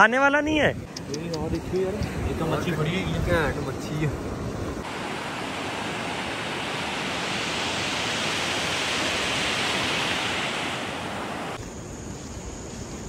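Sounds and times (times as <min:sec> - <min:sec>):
waves washing onto beach: 0:00.8 - 0:11.6.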